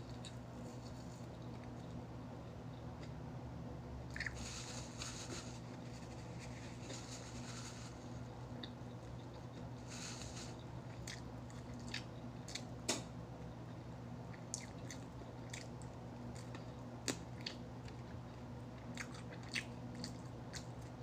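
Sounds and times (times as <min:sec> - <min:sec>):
crunchy chewing of fried chicken: 0:00.0 - 0:21.0
steady low hum: 0:00.0 - 0:21.0.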